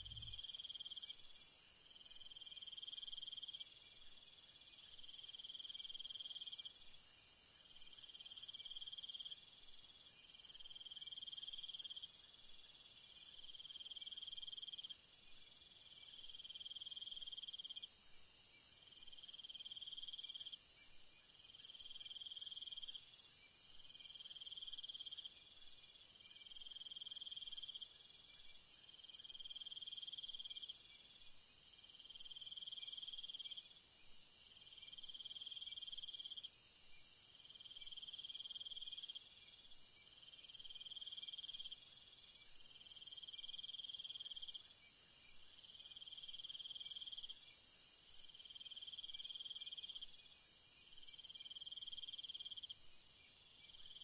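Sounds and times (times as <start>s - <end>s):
lower insect trill: 0.0s - 54.0s.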